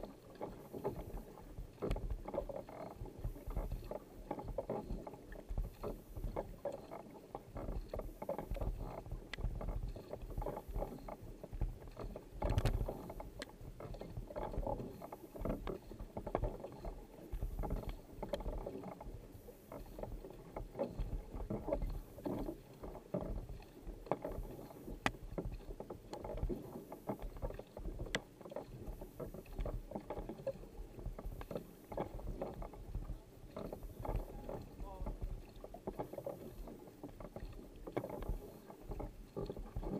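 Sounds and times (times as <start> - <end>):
kayak paddle strokes in water: 0.0 - 39.9
water splashing: 0.0 - 39.9.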